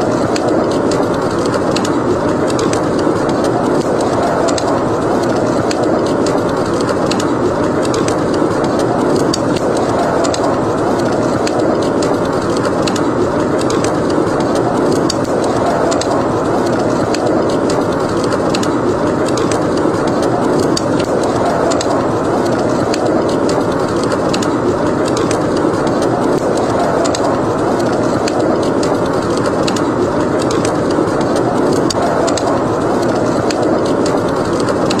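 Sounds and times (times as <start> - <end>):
howling snowstorm wind: 0.0 - 35.0
wood fire crackling: 0.0 - 35.0.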